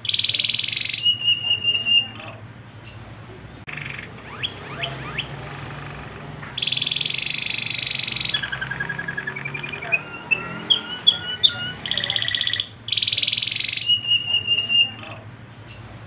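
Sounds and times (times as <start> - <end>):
canary singing trills: 0.0 - 3.1, 3.7 - 15.9.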